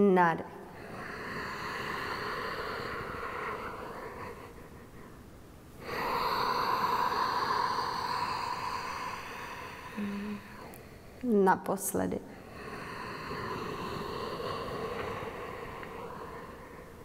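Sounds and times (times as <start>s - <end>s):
woman breathing slowly: 0.5s - 11.3s, 12.1s - 17.0s.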